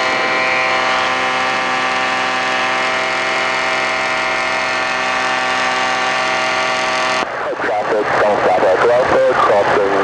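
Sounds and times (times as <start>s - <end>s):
aircraft engine running: 0.0s - 10.0s.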